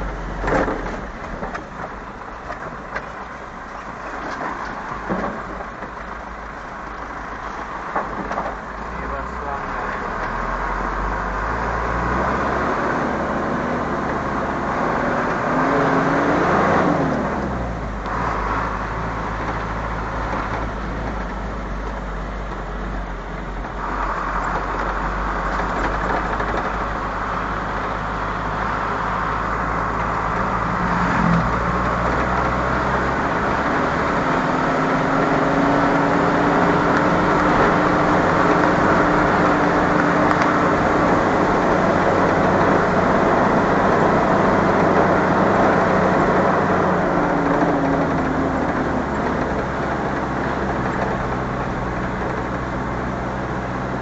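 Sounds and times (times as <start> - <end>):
road noise: 0.0 - 54.0
vehicle engine running: 0.0 - 54.0.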